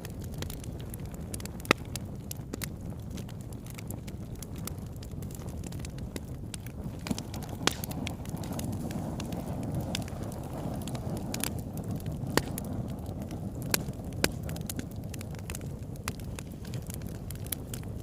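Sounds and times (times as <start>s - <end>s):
burning wood popping and crackling: 0.0s - 18.0s
flames rumbling: 0.0s - 18.0s.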